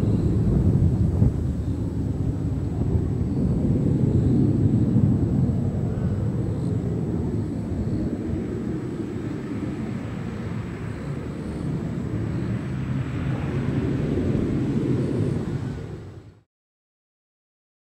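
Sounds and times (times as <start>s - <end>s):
faint high whine: 0.0s - 16.4s
jet engine rumble: 0.0s - 16.5s.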